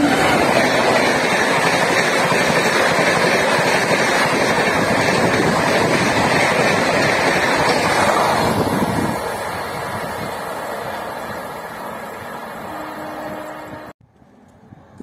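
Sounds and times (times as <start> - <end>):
train passing close by: 0.0 - 15.0.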